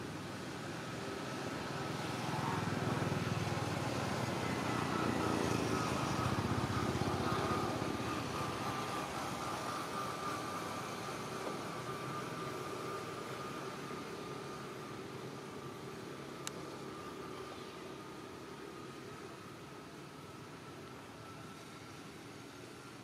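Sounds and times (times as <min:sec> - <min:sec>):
steady high whine: 0:00.0 - 0:23.0.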